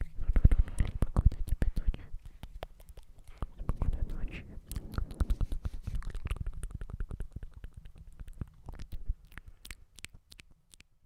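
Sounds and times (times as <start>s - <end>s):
wet mouth clicks and smacks: 0.2s - 11.0s.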